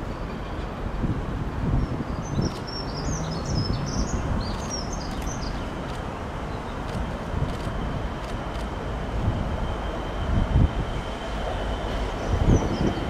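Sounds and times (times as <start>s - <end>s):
diesel freight train rumbling: 0.0s - 13.0s.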